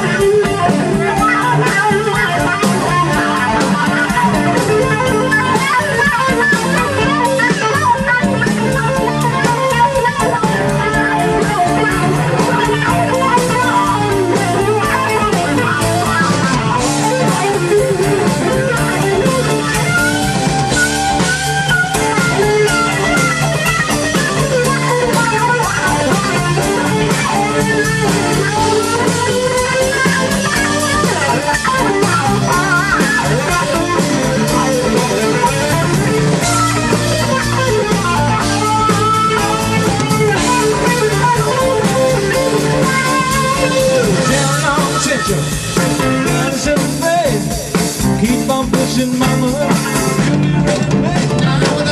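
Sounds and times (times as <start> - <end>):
electric guitar bending notes: 0.0 - 51.9
steady bass line: 0.0 - 51.9.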